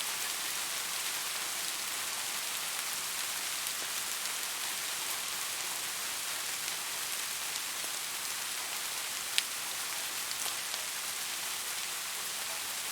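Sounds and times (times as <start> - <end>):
steady rain patter: 0.0 - 12.9.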